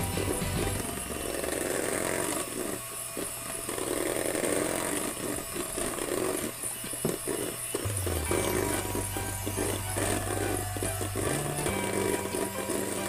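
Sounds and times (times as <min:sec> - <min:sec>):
electric hand mixer whisking: 0:00.0 - 0:13.0.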